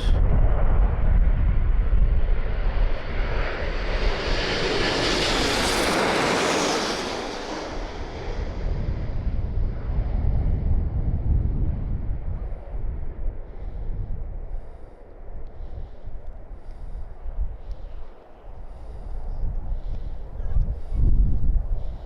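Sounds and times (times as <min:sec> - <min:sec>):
airliner engines passing overhead: 0:00.0 - 0:22.0
wind rumbling on microphone: 0:00.0 - 0:22.0.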